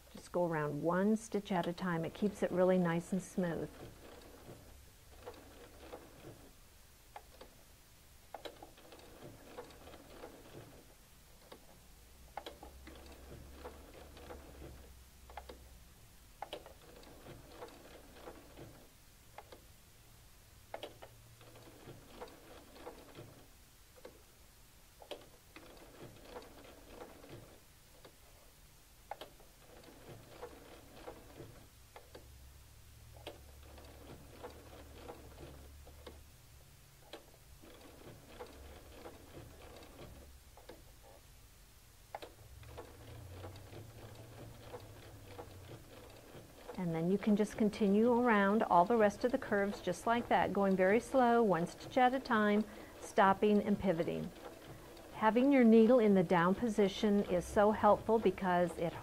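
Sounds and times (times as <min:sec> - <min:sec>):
sewing machine stitching: 0:00.5 - 0:07.6, 0:08.3 - 0:15.7, 0:16.4 - 0:19.6, 0:20.7 - 0:24.2, 0:25.0 - 0:28.5, 0:29.1 - 0:32.4, 0:33.1 - 0:36.2, 0:37.0 - 0:41.2, 0:42.1 - 0:59.0.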